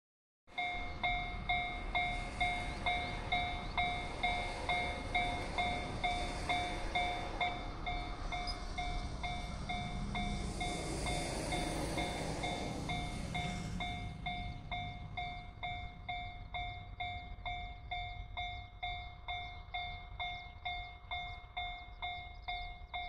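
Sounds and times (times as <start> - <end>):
level-crossing warning bell: 0.5 - 23.0
low rumble: 0.6 - 19.9.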